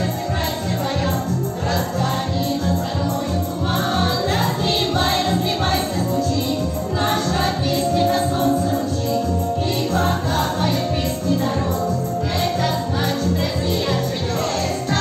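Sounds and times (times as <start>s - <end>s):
group singing: 0.0s - 15.0s
instrumental accompaniment with beat: 0.0s - 15.0s.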